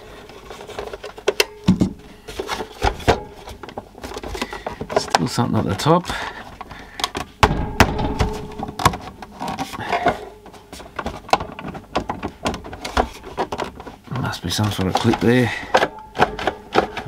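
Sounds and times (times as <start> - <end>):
plastic case clicking and creaking: 0.2 - 7.4, 8.2 - 17.0.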